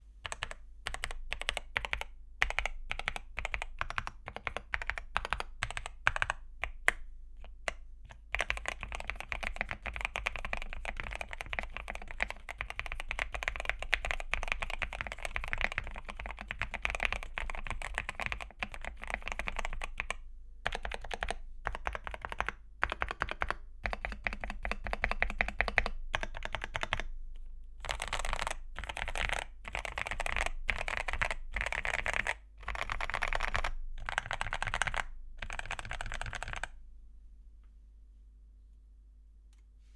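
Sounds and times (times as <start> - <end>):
mechanical keyboard typing: 0.2 - 27.1, 27.8 - 36.8.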